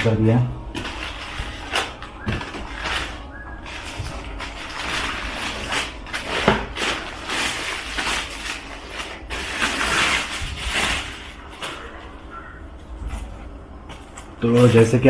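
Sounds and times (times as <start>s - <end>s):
packaging rustling and scraping: 0.0s - 15.0s.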